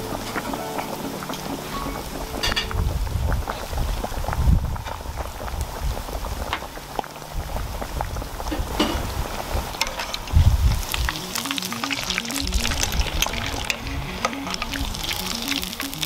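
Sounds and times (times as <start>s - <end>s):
cutlet deep-frying in oil: 0.0s - 16.0s
low rumbles: 0.0s - 16.0s.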